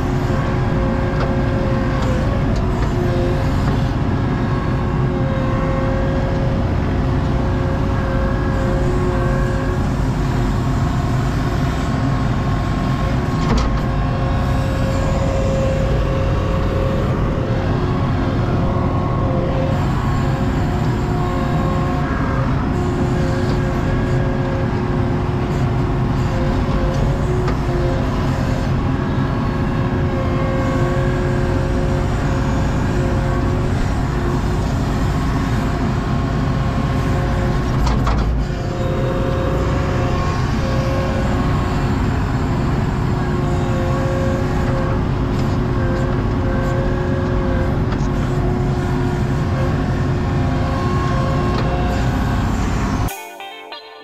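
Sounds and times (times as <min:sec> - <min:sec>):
skid steer engine running: 0:00.0 - 0:53.1.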